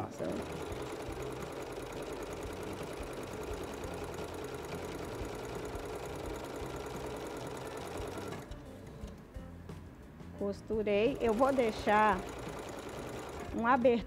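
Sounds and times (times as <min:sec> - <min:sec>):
sewing machine stitching: 0:00.0 - 0:08.5, 0:11.2 - 0:14.0.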